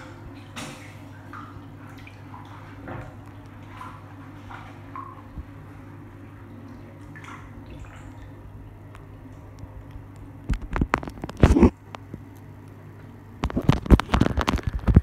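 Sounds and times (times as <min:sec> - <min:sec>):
low steady hum: 0:00.0 - 0:15.0
water splashing and sloshing: 0:00.0 - 0:15.0.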